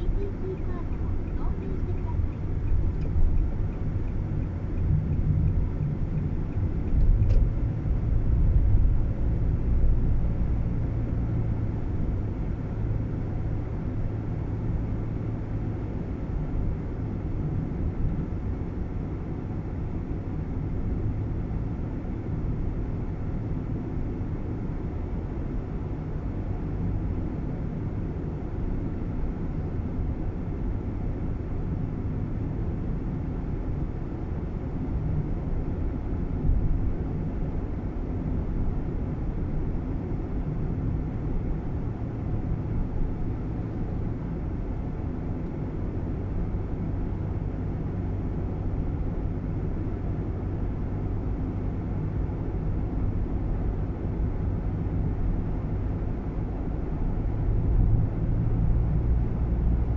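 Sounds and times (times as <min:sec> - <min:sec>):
car interior rumble: 0:00.0 - 0:59.9.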